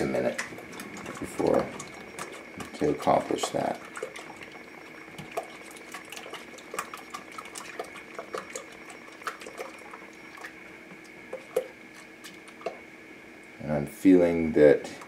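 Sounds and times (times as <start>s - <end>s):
liquid swishing: 0.0s - 12.9s.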